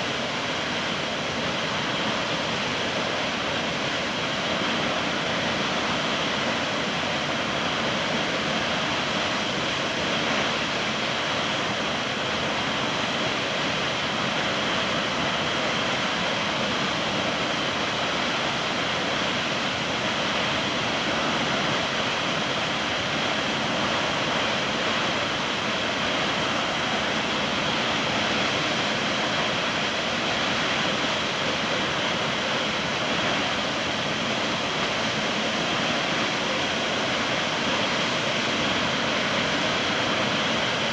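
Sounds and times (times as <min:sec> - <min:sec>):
water rushing and falling: 0:00.0 - 0:40.9.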